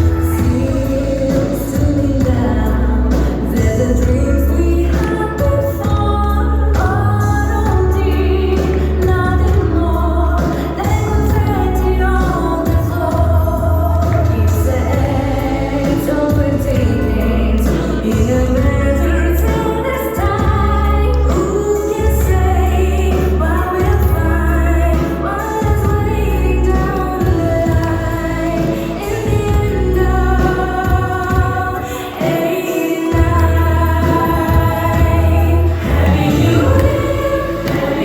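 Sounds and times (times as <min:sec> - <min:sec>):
music with singing and heavy bass: 0:00.0 - 0:38.0.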